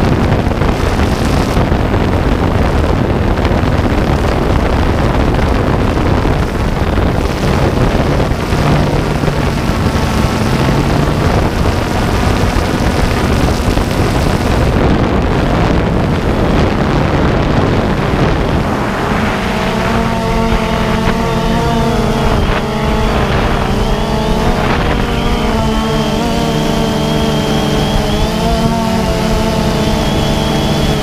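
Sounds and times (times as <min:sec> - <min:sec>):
drone propellers rushing: 0:00.0 - 0:31.0
humming motor tone: 0:00.0 - 0:31.0
wind buffeting microphone: 0:00.0 - 0:31.0.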